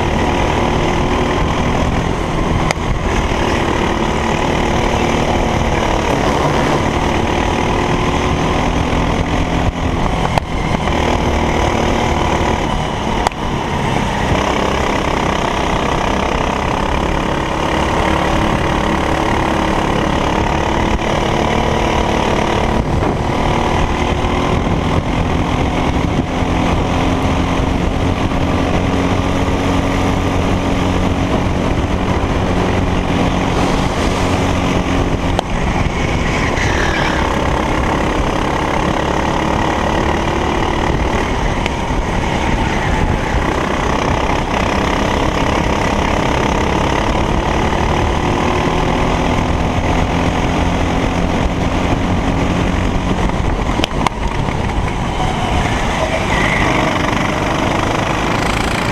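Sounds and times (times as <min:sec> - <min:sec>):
racing kart engine revving: 0:00.0 - 0:58.9.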